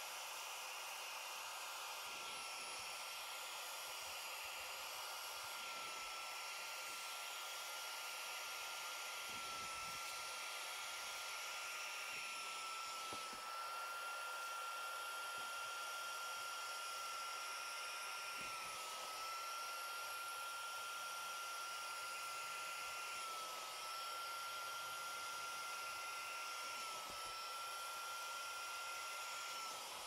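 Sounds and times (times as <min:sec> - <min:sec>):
vacuum motor whining: 0:00.0 - 0:30.0.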